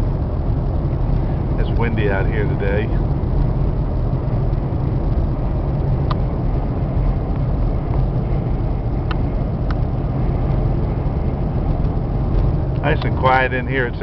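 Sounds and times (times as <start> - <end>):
road and engine rumble in car: 0.0 - 14.0.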